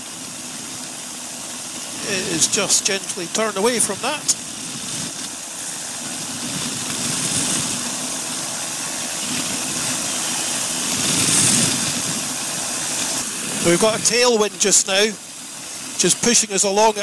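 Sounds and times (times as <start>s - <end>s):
engine and propeller drone: 0.0s - 17.0s
rushing wind: 1.6s - 16.1s.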